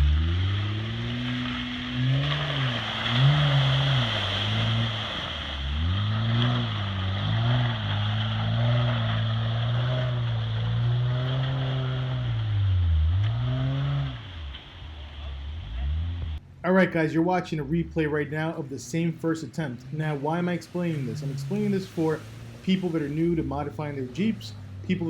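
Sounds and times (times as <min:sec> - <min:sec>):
engine pulling at low revs: 0:00.0 - 0:25.0.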